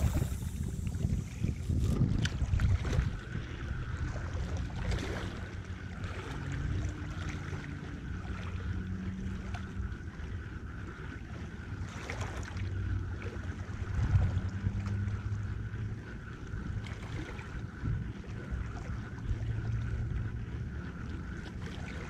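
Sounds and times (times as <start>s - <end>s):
faint low hum: 0.0s - 22.0s
water lapping on rocky shore: 0.0s - 22.0s
wind: 0.0s - 22.0s.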